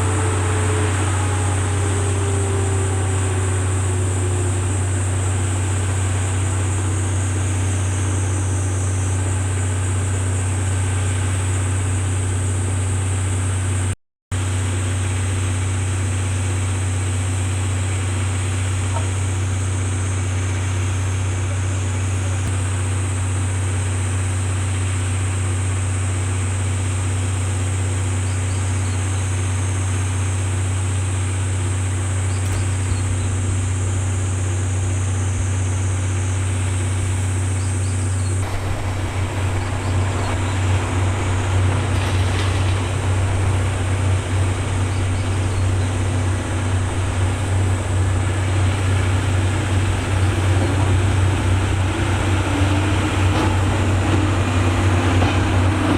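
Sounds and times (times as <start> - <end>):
diesel generator engine humming: 0.0 - 55.9.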